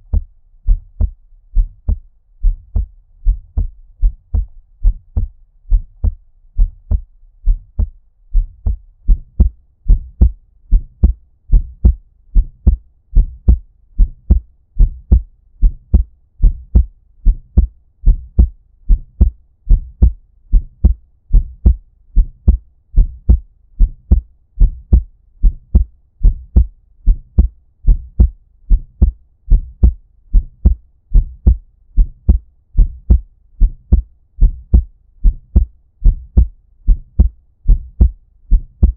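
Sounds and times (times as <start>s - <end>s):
muffled heartbeat thumps: 0.0s - 38.9s.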